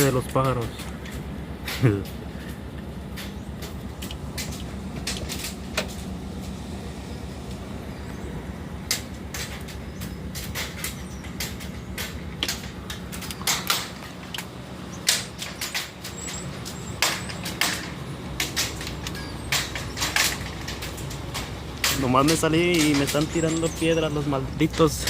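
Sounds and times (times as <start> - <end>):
fruits striking with clicks and knocks: 0.0 - 6.7, 8.8 - 25.0
car engine idling: 0.0 - 25.0.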